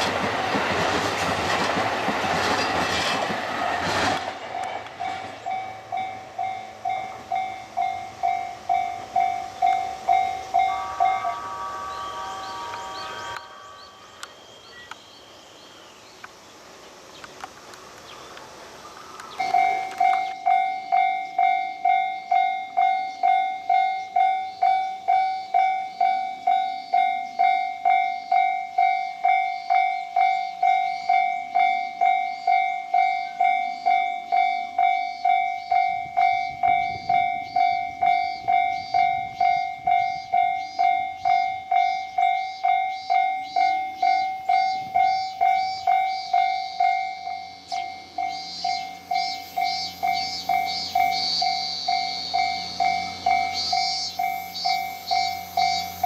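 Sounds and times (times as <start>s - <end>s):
level crossing warning bell: 4.9s - 15.0s, 19.3s - 56.0s.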